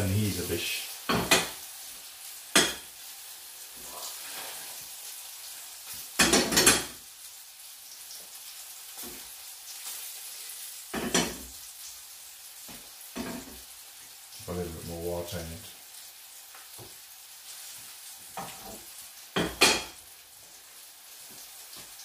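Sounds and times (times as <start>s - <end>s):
fish sizzling in a frying pan: 0.0s - 22.0s.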